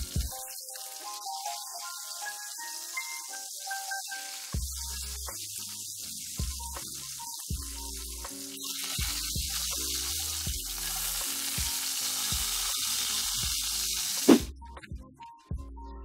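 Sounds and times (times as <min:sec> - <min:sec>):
chicken sizzling in oil: 0:00.0 - 0:14.5
background music with steady beat: 0:00.0 - 0:16.0.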